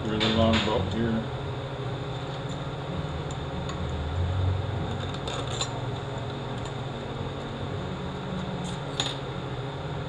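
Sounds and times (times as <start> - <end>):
fan humming: 0.0 - 10.0.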